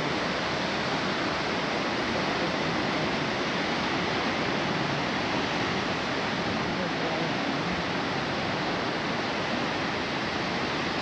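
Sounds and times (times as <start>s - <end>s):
steady rushing outdoor noise: 0.0s - 11.0s.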